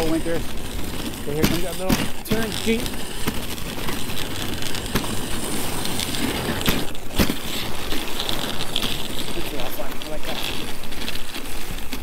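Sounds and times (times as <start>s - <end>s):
sled knocks: 0.0s - 10.1s
sled runners scraping over snow: 0.0s - 12.0s.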